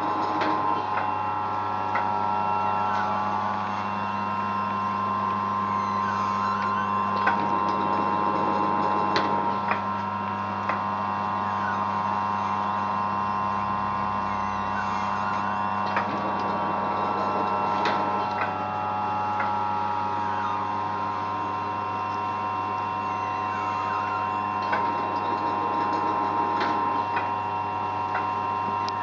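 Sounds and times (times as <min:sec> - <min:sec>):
metal planer humming and whining: 0:00.0 - 0:29.0
short squeals: 0:00.0 - 0:29.0.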